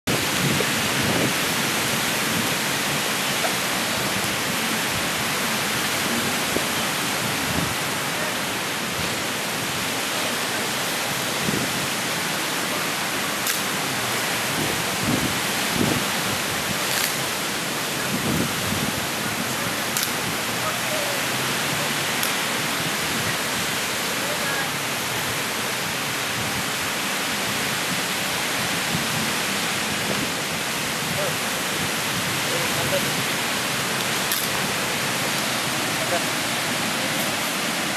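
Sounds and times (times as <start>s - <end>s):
ocean waves breaking: 0.1s - 37.9s.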